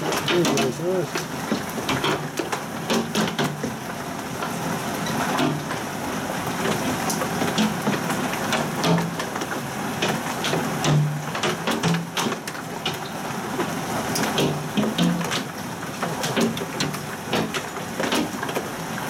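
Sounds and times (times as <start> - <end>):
hailstones striking hard surfaces: 0.0 - 19.0
heavy rain hiss: 0.0 - 19.0.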